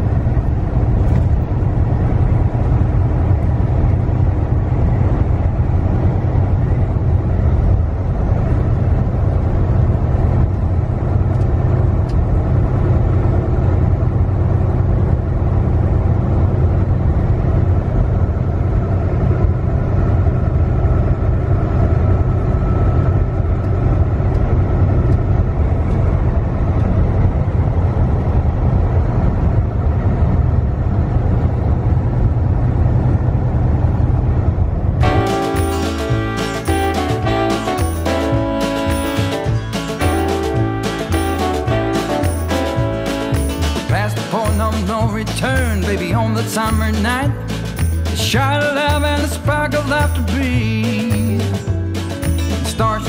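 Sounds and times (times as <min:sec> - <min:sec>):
truck engine and road noise: 0:00.0 - 0:53.0.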